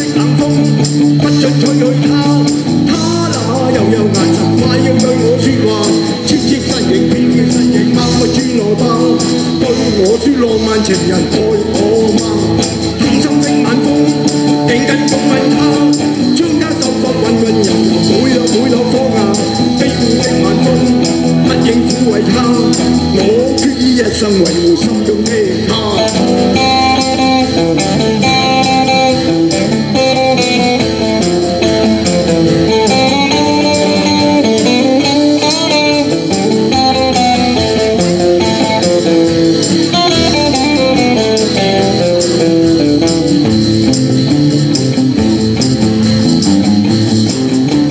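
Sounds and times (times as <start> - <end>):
person singing: 0.0 - 43.5
drum kit: 0.0 - 47.9
electric guitars: 0.0 - 47.9
higher melodic notes: 0.0 - 47.9.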